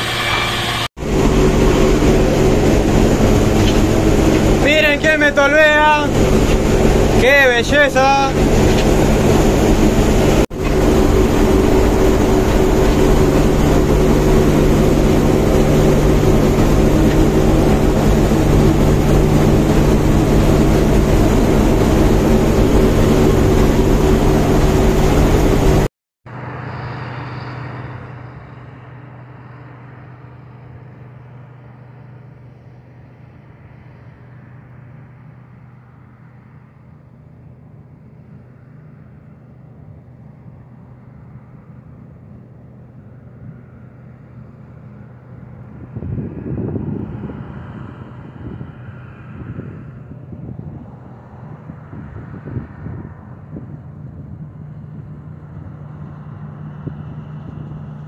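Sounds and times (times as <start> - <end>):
combine harvester machinery running: 0.0 - 45.7, 54.4 - 58.0
quiet engine drone: 0.0 - 58.0.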